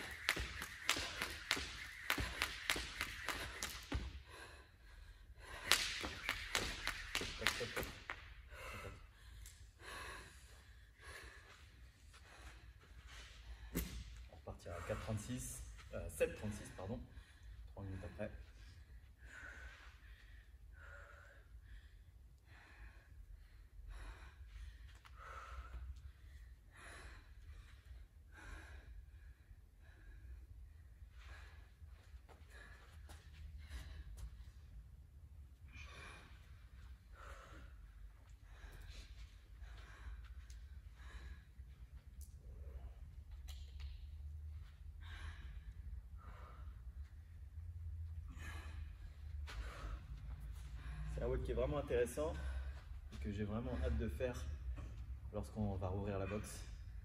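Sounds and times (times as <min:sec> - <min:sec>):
woman breathing hard: 0:00.0 - 0:15.9, 0:16.5 - 0:51.4, 0:52.2 - 0:55.3.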